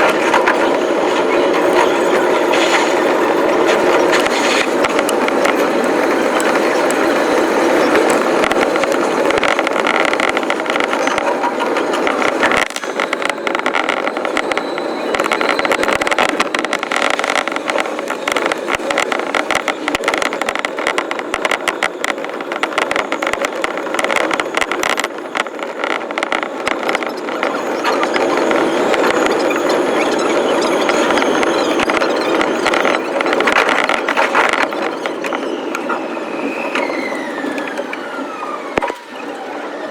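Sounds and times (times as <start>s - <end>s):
steady train running noise: 0.0s - 39.9s
train wheel clatter: 0.0s - 39.9s.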